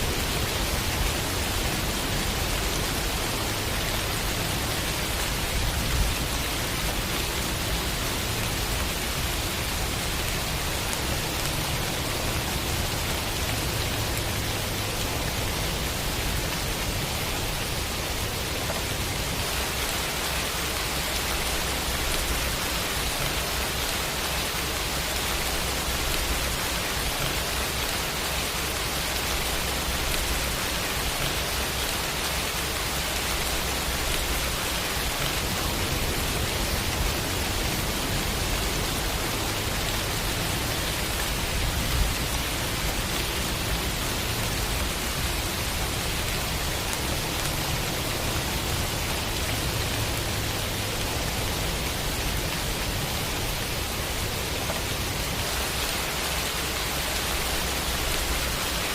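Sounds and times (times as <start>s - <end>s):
steady rainfall: 0.0s - 58.9s.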